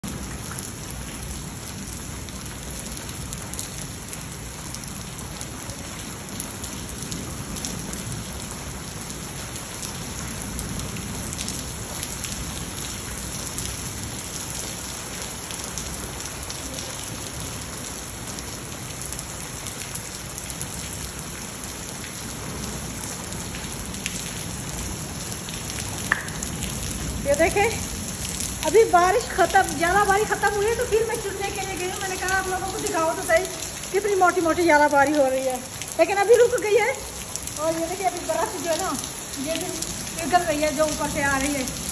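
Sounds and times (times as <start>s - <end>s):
heavy rain on concrete: 0.0s - 41.9s.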